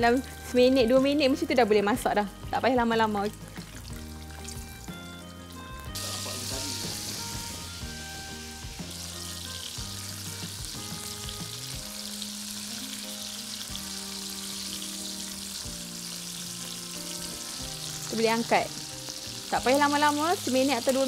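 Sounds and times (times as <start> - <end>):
shrimp sizzling in hot oil: 0.0 - 21.0.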